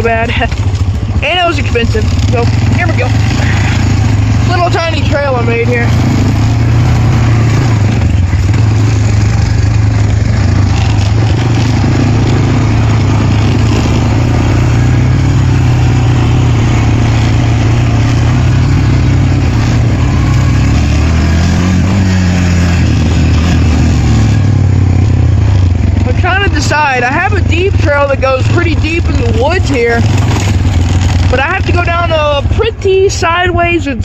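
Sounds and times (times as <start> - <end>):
quad bike engine running: 0.0 - 34.0.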